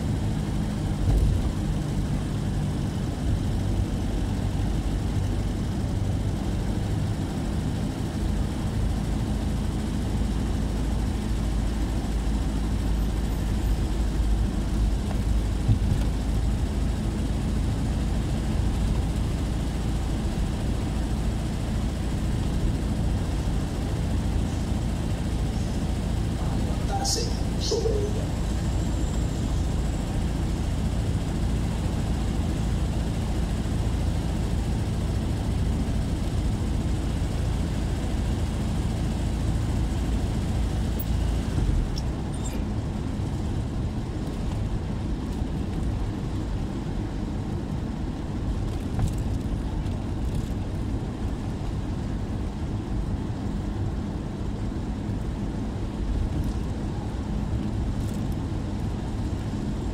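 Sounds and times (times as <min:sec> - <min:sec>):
car driving rumble: 0:00.0 - 0:59.9.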